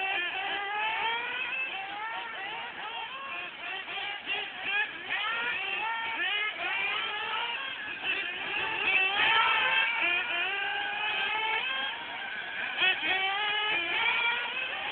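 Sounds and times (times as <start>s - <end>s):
model race car motors whining: 0.0s - 14.9s.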